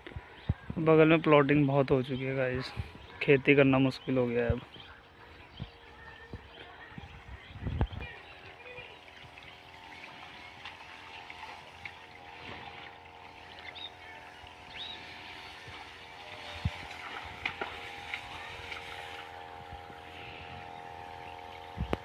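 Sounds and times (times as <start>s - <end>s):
sprayer pump motor humming: 0.0s - 22.0s.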